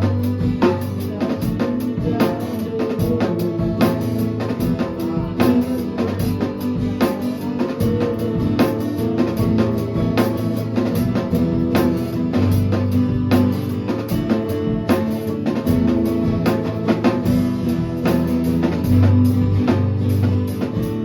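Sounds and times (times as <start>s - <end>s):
bass guitar: 0.0s - 21.0s
drum kit beat: 0.0s - 21.0s
electric guitar: 0.0s - 21.0s.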